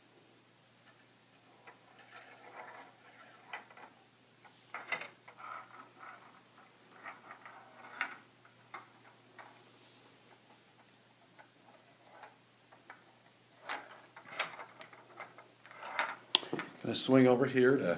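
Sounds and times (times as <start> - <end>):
steel ball rolling on plastic: 0.9 - 9.6, 10.2 - 16.3.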